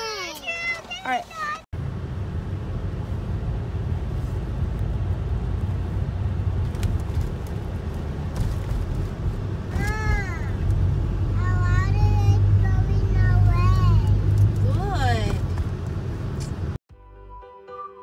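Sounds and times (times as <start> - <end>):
car cabin road rumble: 0.2 - 16.8.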